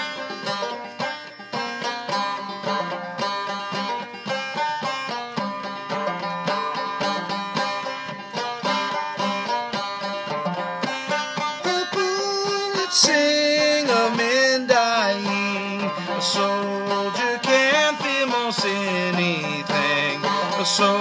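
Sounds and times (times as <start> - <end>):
banjo plucked notes: 0.0 - 21.0.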